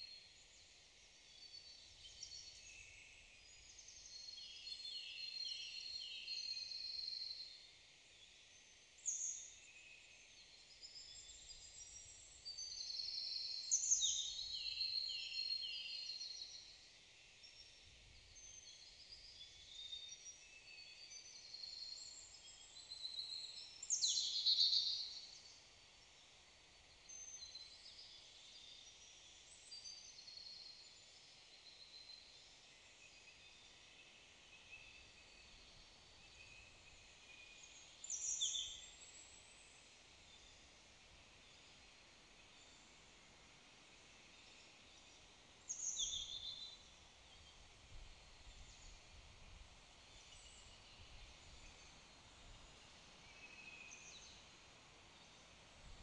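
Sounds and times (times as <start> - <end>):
songbirds singing: 8.2 - 56.0.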